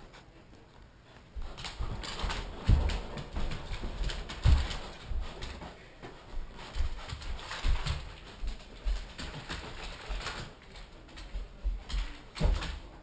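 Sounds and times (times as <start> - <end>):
dog play-fighting scuffling: 1.3 - 13.0.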